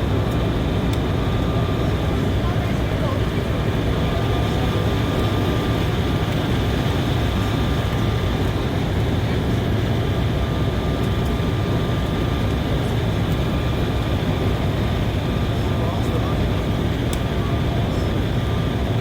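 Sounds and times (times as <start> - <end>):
jet engine and airflow roar: 0.0 - 19.0.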